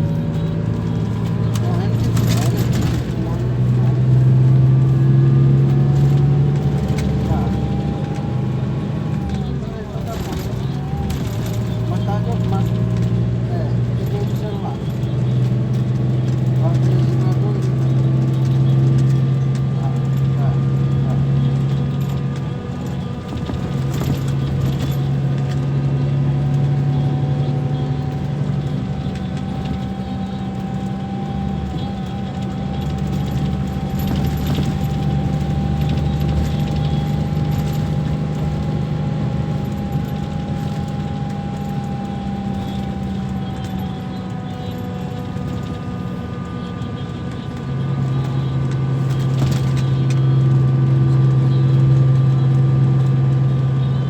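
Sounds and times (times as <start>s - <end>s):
bus engine droning: 0.0s - 54.0s
faint engine whine: 0.0s - 54.0s.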